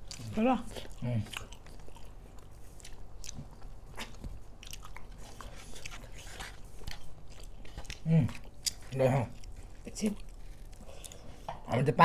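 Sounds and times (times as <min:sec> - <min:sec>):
person chewing food: 0:00.0 - 0:11.7.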